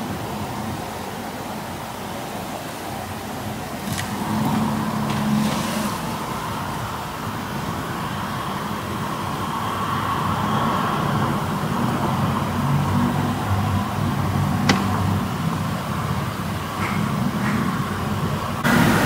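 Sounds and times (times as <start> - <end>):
steady traffic hum: 0.0 - 19.0.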